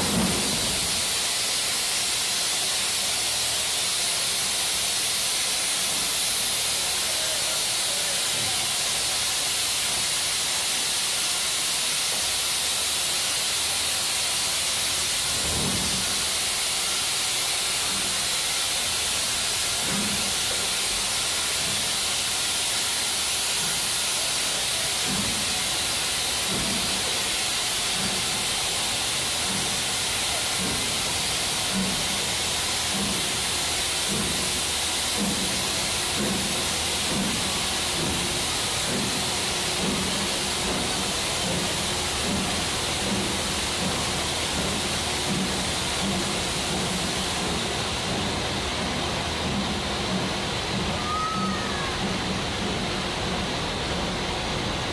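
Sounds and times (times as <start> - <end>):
steam hissing: 0.0 - 54.9
steam locomotive exhaust chuffs: 0.0 - 54.9.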